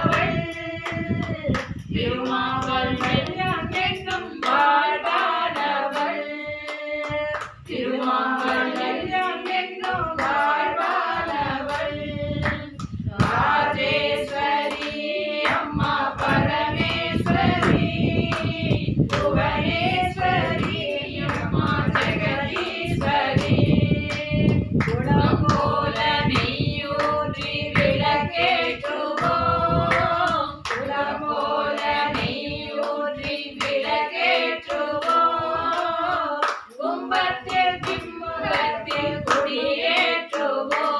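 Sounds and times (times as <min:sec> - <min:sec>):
hand claps: 0:00.0 - 0:40.9
women singing devotional song: 0:00.0 - 0:40.9.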